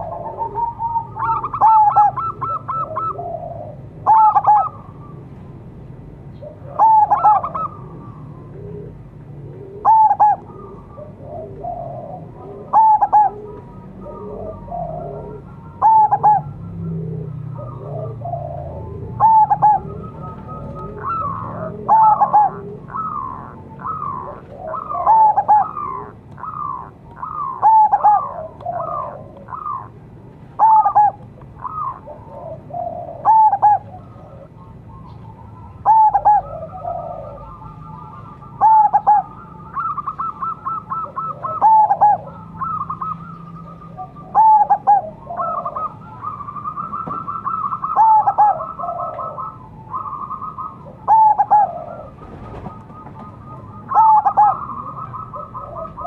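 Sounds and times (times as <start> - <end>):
dove cooing song: 0.0 - 56.0.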